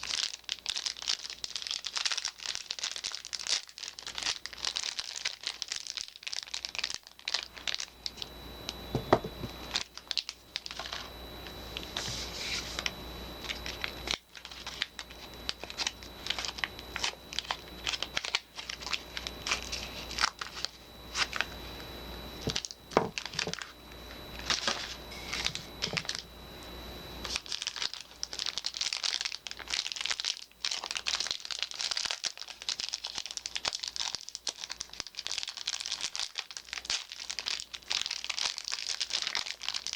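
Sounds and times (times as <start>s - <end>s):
packaging crinkling and tearing: 0.0s - 21.6s, 22.4s - 26.3s, 27.2s - 39.9s.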